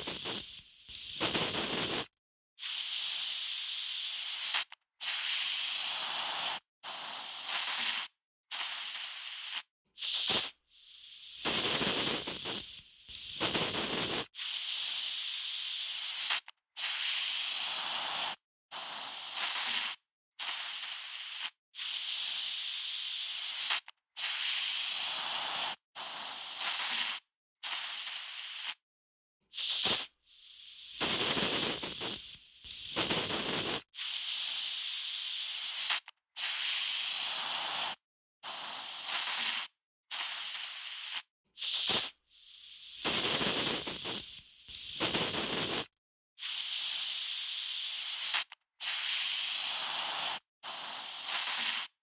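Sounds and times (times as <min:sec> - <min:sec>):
aerosol spray can hissing: 0:00.0 - 0:28.8, 0:29.5 - 0:52.0.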